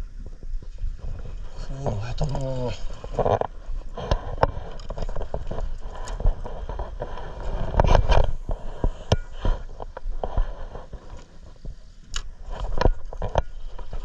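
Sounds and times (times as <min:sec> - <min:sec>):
knocks and scrapes on boat: 0:00.6 - 0:14.0.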